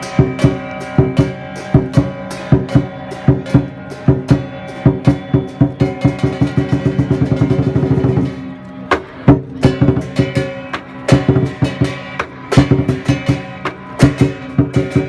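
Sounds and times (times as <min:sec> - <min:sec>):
big drum beating: 0:00.0 - 0:15.0
cymbals clashing: 0:00.0 - 0:15.0
gong: 0:00.0 - 0:15.0.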